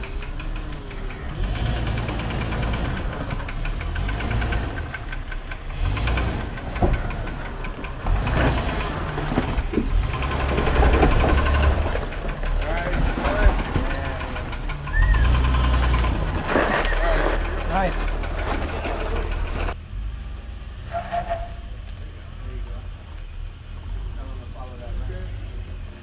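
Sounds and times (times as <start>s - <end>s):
off-road vehicle engine at low revs: 0.0s - 26.0s.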